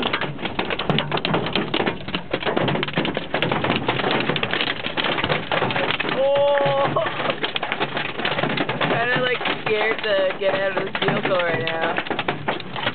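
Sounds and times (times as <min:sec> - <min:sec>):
hailstones pelting vehicle roof: 0:00.0 - 0:12.9.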